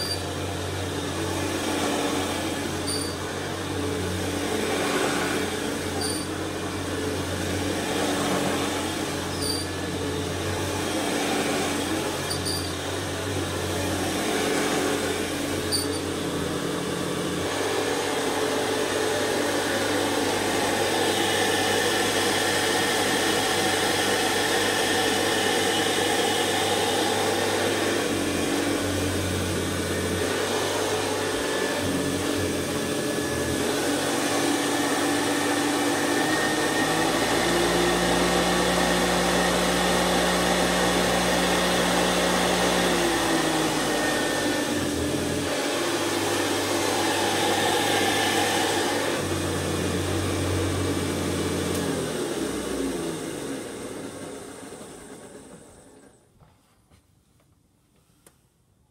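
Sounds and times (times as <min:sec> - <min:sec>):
vacuum cleaner running: 0:00.0 - 0:56.6.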